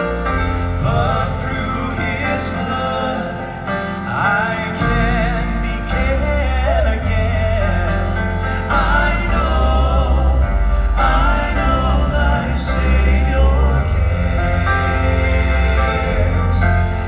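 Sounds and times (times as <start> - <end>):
bass line: 0.0 - 17.0
male quartet singing: 0.0 - 17.0.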